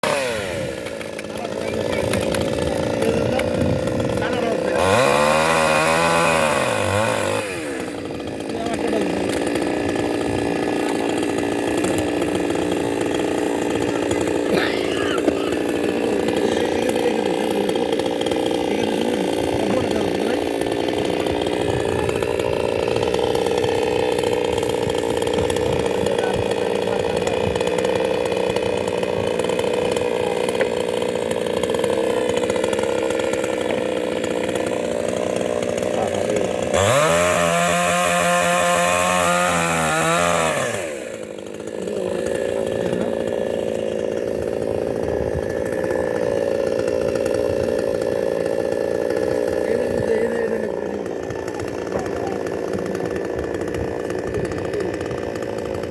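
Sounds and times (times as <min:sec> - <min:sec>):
small engine running and revving: 0:00.0 - 0:55.9.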